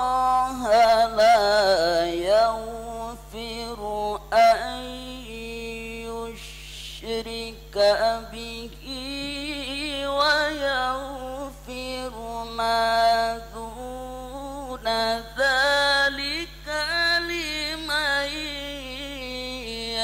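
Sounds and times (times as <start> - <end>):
person chanting recitation: 0.0 - 20.0
steady low hum: 0.0 - 20.0.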